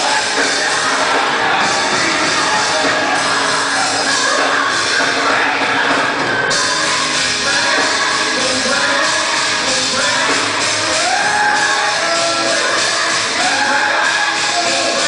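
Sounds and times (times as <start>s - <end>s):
gospel singing through pa: 0.0s - 15.0s
loud band playing: 0.0s - 15.0s.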